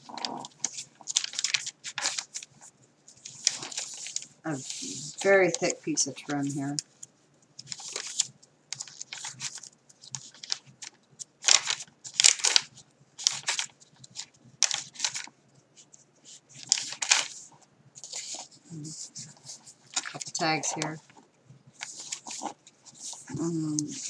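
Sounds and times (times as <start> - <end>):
paper pages rustling: 0.0 - 24.0.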